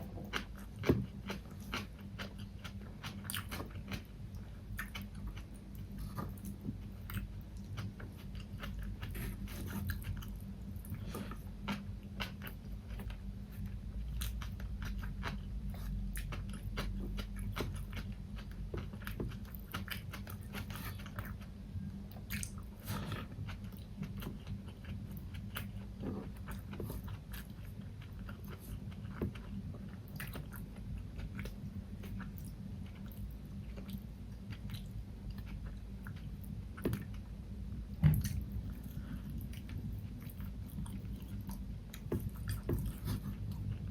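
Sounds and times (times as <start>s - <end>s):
chewing and crunching food: 0.0s - 43.9s
steady low hum: 0.0s - 43.9s.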